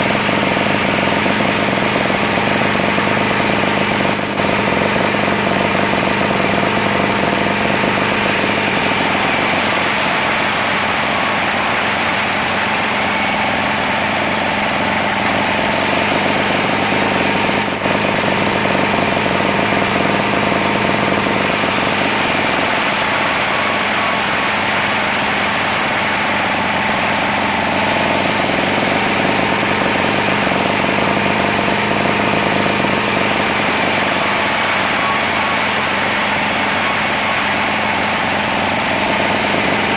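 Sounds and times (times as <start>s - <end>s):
sawmill engine and saw running: 0.0s - 39.9s.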